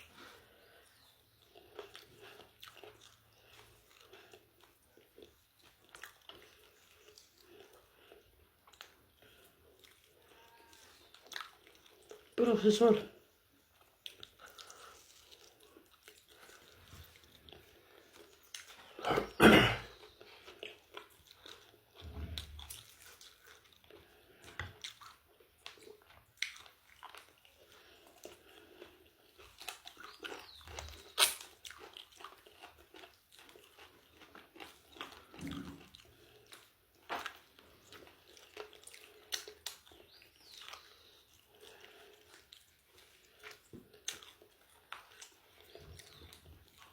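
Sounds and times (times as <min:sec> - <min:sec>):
person chewing crispy food: 0:00.0 - 0:46.9.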